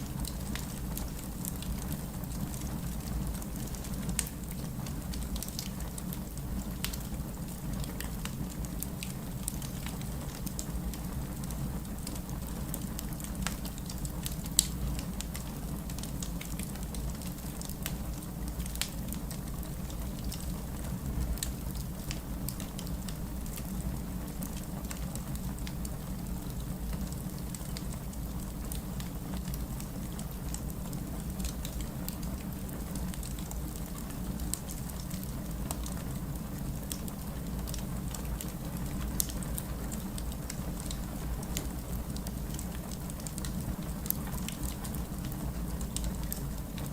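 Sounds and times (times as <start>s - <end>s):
steady rain: 0.0s - 46.9s
wood fire crackling: 0.0s - 46.9s.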